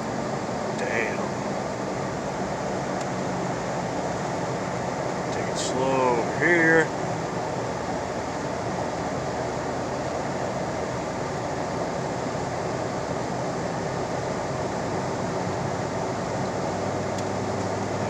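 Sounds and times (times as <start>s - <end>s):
heater fan running: 0.0s - 18.0s
tyres on the road: 0.1s - 18.0s.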